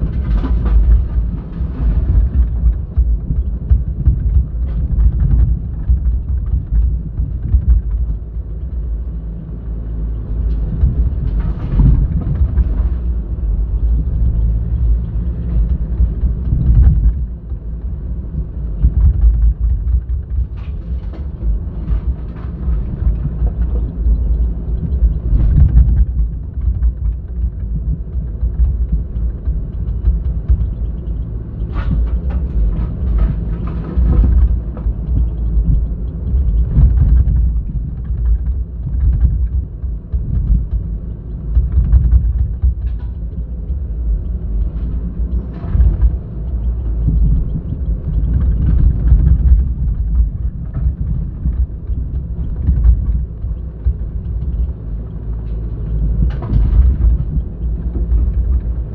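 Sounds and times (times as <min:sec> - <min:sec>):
clanks and knocks: 0:00.0 - 0:58.9
excavator diesel engine rumbling: 0:00.0 - 0:58.9.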